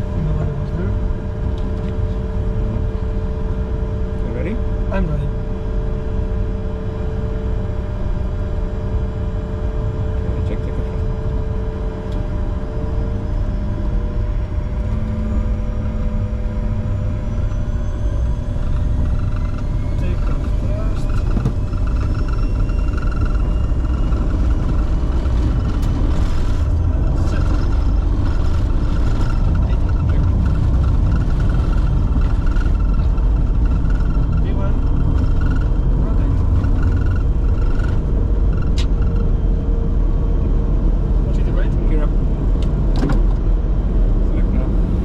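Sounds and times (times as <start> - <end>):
faint steady tones: 0.0 - 42.8
jet engine rumble: 0.0 - 45.0.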